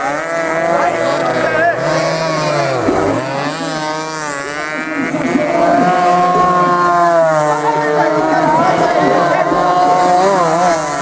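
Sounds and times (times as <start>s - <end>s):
racing motorcycles passing at high revs: 0.0s - 11.0s.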